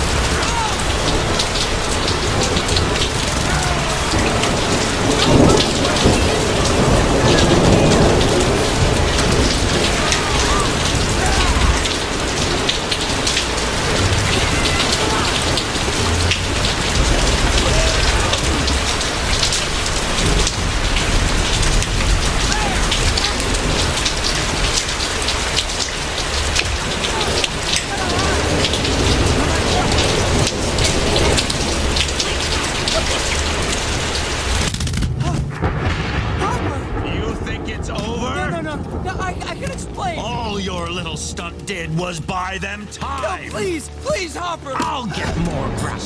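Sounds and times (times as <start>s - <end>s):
low thunder rumbles: 0.0s - 41.7s
heavy rain pouring: 0.0s - 46.0s.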